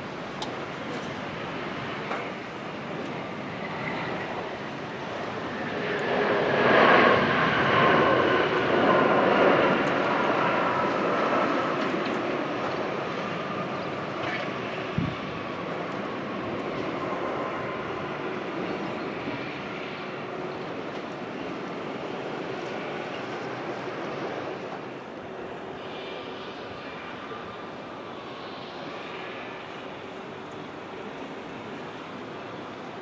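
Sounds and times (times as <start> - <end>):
jet engines passing with whine: 0.0 - 33.0.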